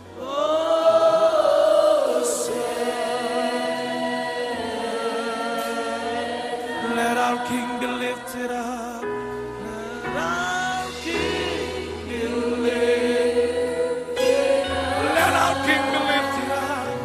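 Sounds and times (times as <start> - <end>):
choir singing: 0.0 - 17.0
sustained instrumental backing: 0.0 - 17.0.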